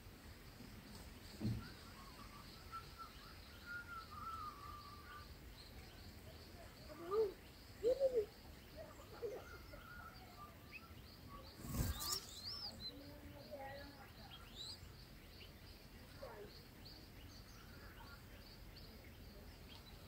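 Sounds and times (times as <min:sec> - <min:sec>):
birds calling: 0:00.8 - 0:20.0.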